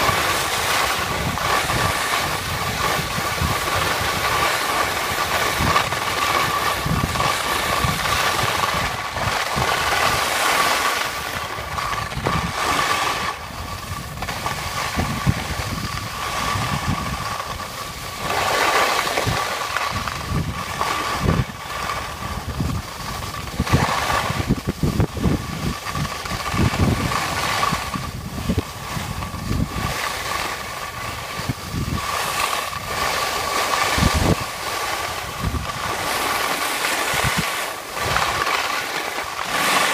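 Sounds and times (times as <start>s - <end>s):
skis sliding on snow: 0.0s - 39.9s
wind buffeting microphone: 0.0s - 39.9s.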